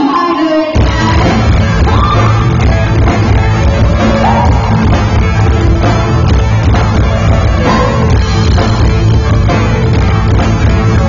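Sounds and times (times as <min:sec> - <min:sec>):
live rock band playing: 0:00.7 - 0:11.0.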